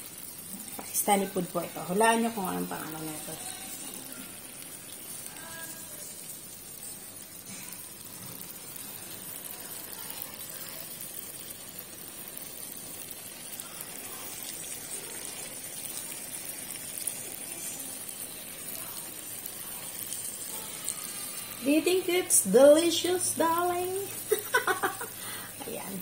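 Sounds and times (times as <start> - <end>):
curry sizzling in oil: 0.0 - 26.0.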